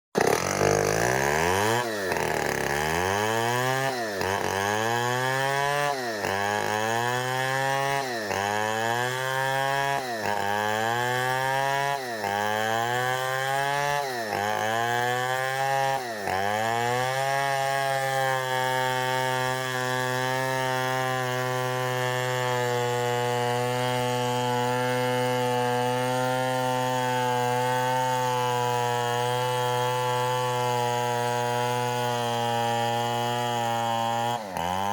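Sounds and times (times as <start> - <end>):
chainsaw sawing timber: 0.2 - 34.9.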